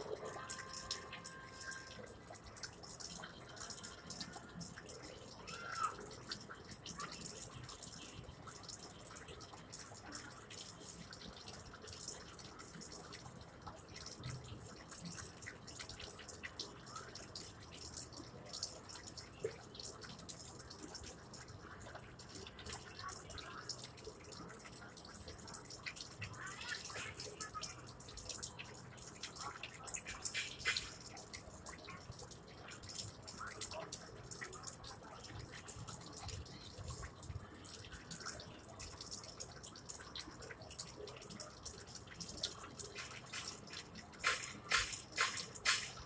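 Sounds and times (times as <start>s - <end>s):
water dripping: 0.0s - 46.0s.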